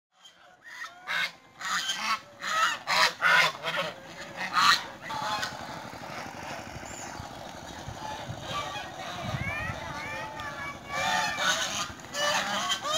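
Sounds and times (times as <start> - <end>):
geese honking: 0.2 - 12.9.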